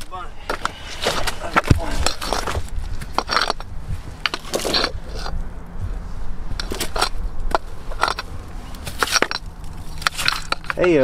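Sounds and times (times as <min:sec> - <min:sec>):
rocks clacking and scraping: 0:00.0 - 0:05.5, 0:06.5 - 0:11.0.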